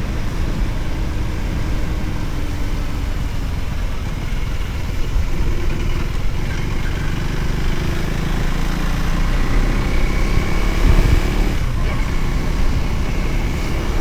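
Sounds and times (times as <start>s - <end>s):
motorcycle engine running: 0.0s - 14.0s
road and air noise: 0.0s - 14.0s.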